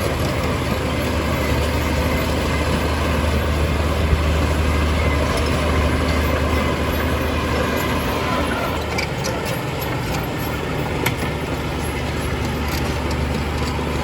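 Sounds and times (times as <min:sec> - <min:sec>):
heavy machinery diesel engine hum: 0:00.0 - 0:14.0.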